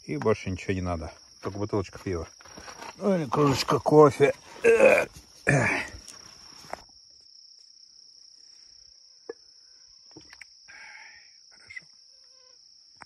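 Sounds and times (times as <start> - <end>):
cricket trilling: 0.0 - 13.0.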